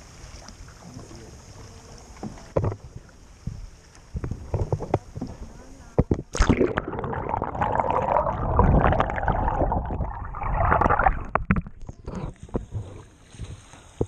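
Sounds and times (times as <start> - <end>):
water splashing and gurgling: 0.0 - 14.0.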